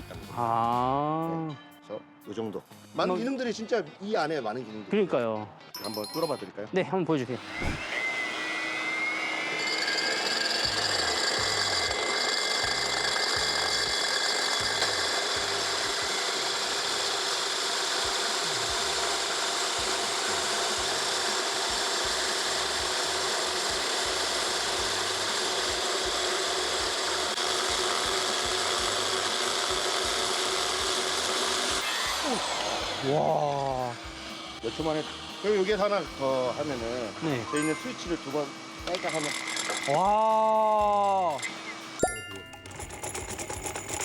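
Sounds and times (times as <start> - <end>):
drill motor whining: 7.2 - 44.0
drill bit grinding concrete: 7.3 - 41.9, 42.6 - 44.0.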